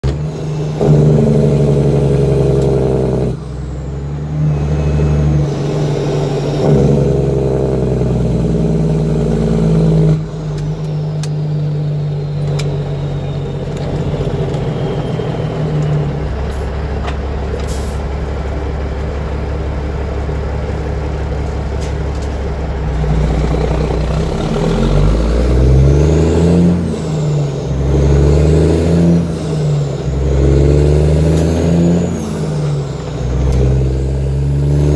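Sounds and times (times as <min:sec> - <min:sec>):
truck diesel engine braking: 0:00.0 - 0:34.9.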